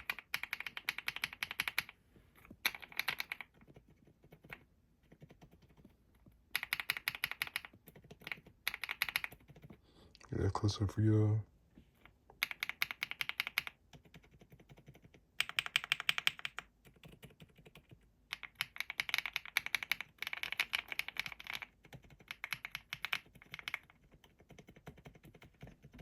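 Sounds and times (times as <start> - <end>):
soft mechanical keyboard typing: 0.0 - 9.8, 12.0 - 26.0.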